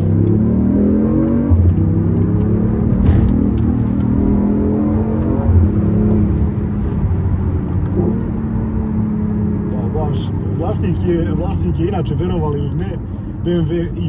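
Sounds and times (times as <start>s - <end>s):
car engine drone inside cabin: 0.0s - 14.0s
road noise: 0.0s - 14.0s.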